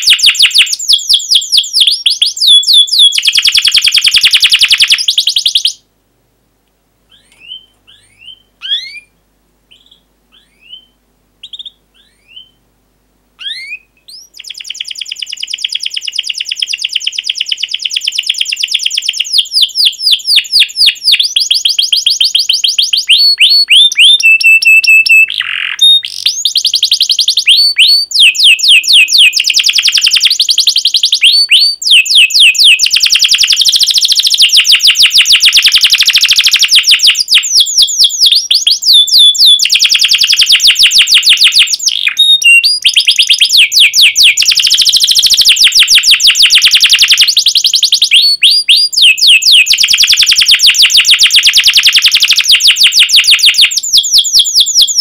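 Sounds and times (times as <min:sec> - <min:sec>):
canary singing: 0:00.0 - 0:05.8, 0:07.1 - 0:12.6, 0:13.4 - 0:55.0.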